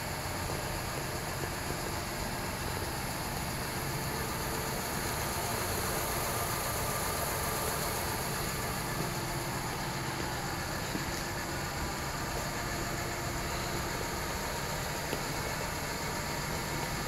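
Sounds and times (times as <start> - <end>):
steady rumble and hiss: 0.0 - 17.0.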